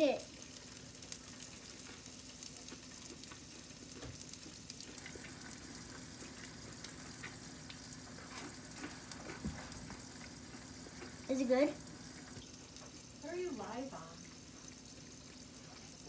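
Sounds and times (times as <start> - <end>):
food sizzling in hot oil: 0.0 - 16.0
oil crackles and pops: 0.0 - 16.0.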